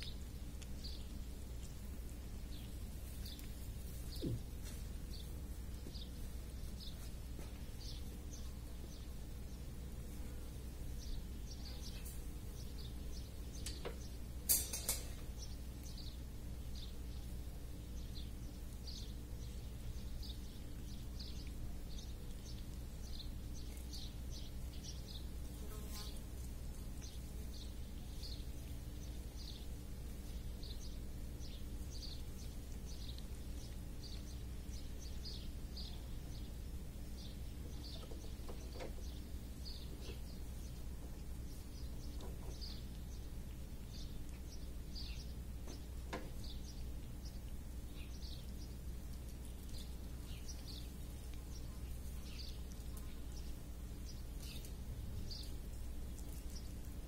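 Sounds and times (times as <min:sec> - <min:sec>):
small bird chirping: 0:00.0 - 0:10.2, 0:10.9 - 0:57.0
low background rumble: 0:00.0 - 0:57.0.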